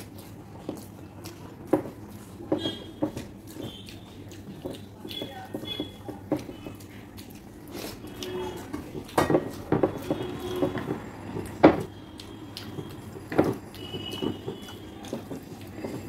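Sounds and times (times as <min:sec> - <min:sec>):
people chewing: 0:00.0 - 0:16.0
fingers knocking against plates: 0:01.6 - 0:06.8, 0:08.2 - 0:16.0.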